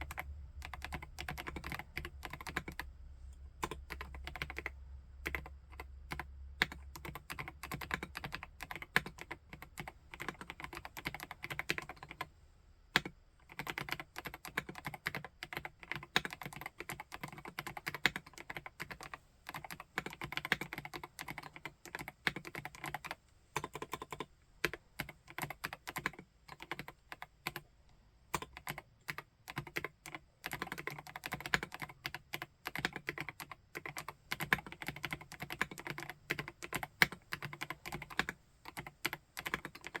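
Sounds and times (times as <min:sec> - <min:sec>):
typing on mechanical keyboard: 0:00.0 - 0:02.9, 0:03.6 - 0:12.3, 0:13.0 - 0:27.6, 0:28.3 - 0:40.0.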